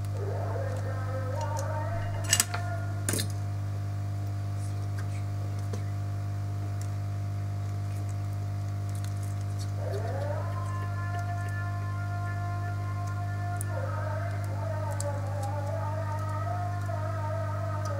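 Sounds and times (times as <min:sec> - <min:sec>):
low electrical hum: 0:00.0 - 0:17.9.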